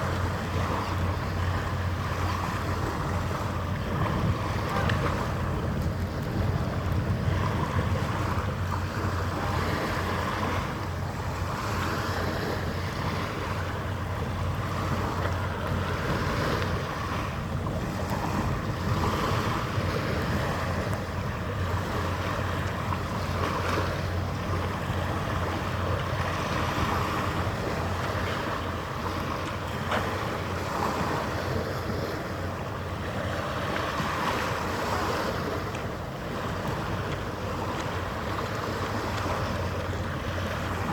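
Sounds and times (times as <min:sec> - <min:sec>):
harbour water: 0:00.0 - 0:40.9
low machinery hum: 0:00.0 - 0:40.9
wind: 0:00.0 - 0:40.9.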